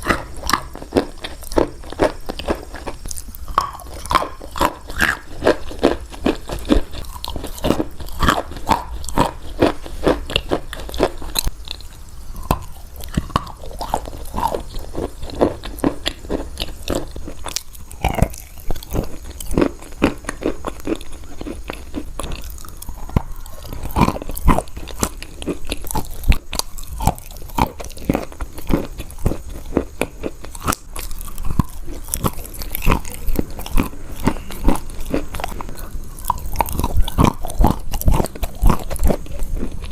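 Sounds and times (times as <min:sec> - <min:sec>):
biting and chewing crunchy chalk: 0:00.0 - 0:39.9.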